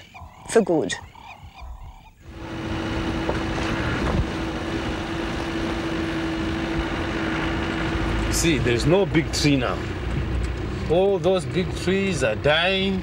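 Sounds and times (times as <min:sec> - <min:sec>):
constant low hum: 0:00.0 - 0:13.0
quiet outdoor sound: 0:00.0 - 0:13.0
vehicle engine and road noise: 0:00.0 - 0:13.0.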